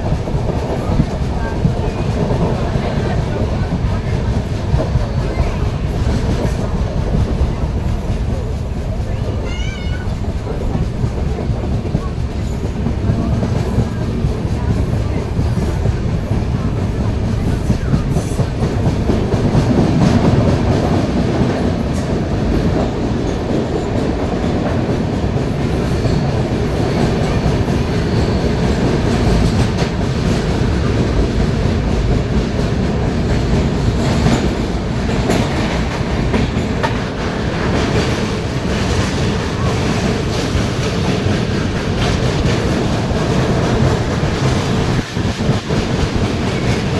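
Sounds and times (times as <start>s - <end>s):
train rumbling along track: 0.0s - 46.9s.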